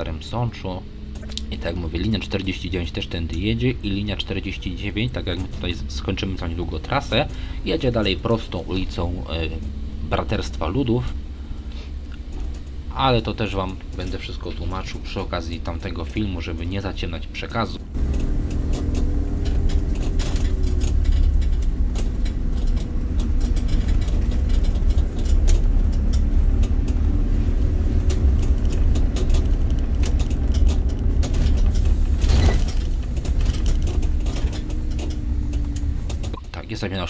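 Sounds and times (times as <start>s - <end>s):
body clicks and rattles: 0.0s - 11.3s, 11.9s - 37.0s
bus engine and road rumble: 0.0s - 37.0s.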